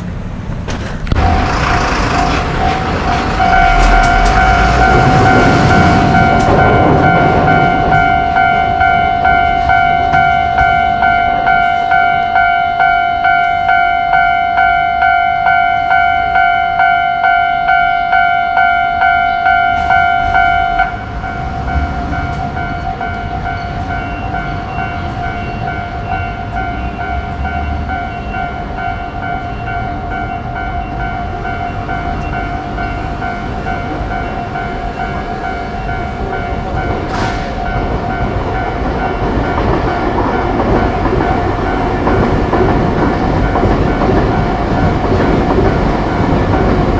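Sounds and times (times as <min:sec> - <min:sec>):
train rumble and rail clatter: 0:00.0 - 0:46.9
level crossing warning bell: 0:01.1 - 0:46.9.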